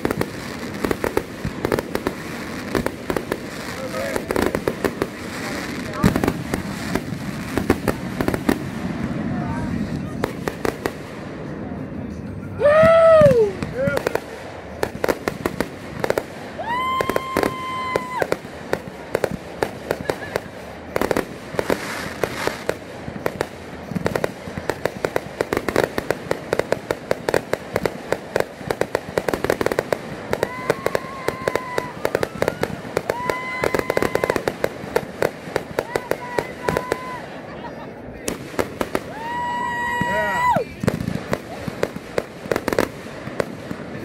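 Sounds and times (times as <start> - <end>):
fireworks shots and bursts: 0.0 - 44.0
whistling fireworks: 0.0 - 44.0.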